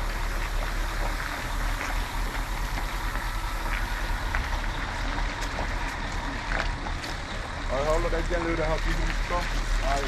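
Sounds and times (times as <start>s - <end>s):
road noise: 0.0s - 10.0s
truck engine rumbling: 0.0s - 10.0s.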